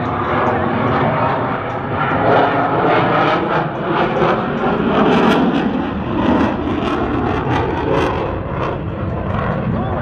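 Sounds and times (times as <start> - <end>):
loud crackling jet engine noise: 0.0 - 10.0.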